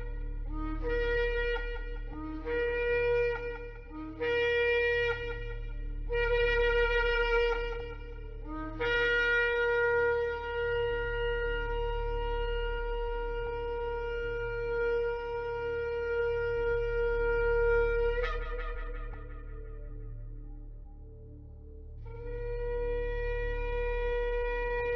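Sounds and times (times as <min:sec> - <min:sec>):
shofar blasts: 0:00.0 - 0:20.5.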